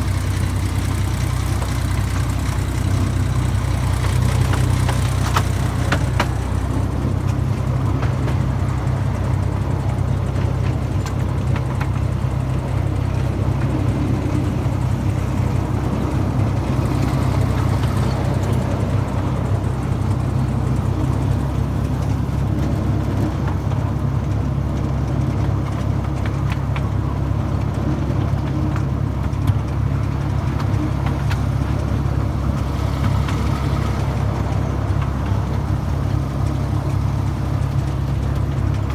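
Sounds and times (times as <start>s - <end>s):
locomotive engine humming: 0.0s - 38.9s.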